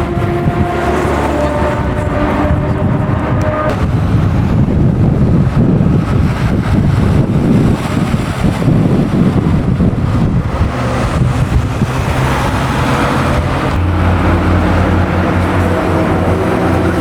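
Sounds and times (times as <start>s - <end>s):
car engine running: 0.0s - 17.0s
wind rumble on microphone: 0.0s - 17.0s.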